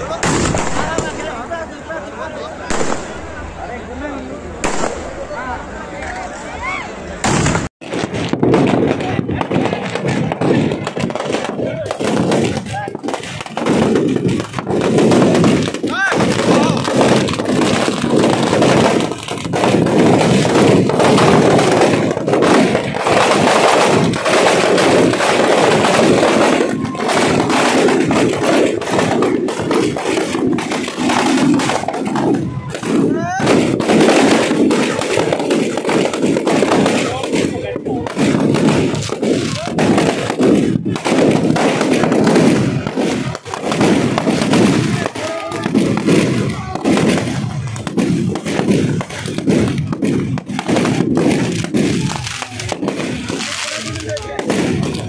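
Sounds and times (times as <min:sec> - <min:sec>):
firecrackers cracking: 0:00.0 - 0:01.7, 0:02.6 - 0:03.4, 0:04.6 - 0:06.3, 0:07.2 - 0:55.0
crowd shouting: 0:00.8 - 0:07.2, 0:14.5 - 0:49.5, 0:51.5 - 0:55.0.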